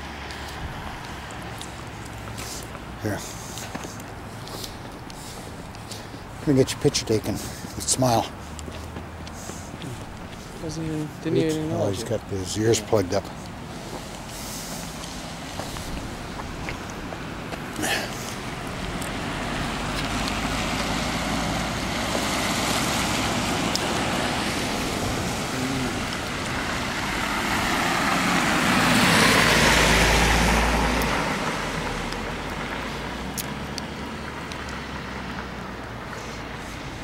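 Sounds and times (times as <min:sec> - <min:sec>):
tyres hissing on wet road: 0:00.0 - 0:37.0.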